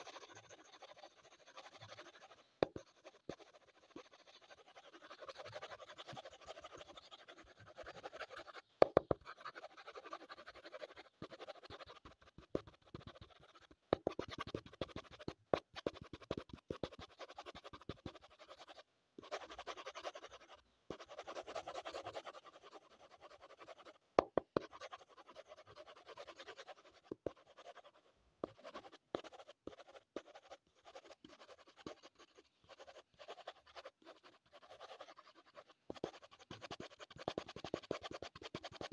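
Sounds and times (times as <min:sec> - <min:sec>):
pencil scratching on paper: 0:00.0 - 0:38.9.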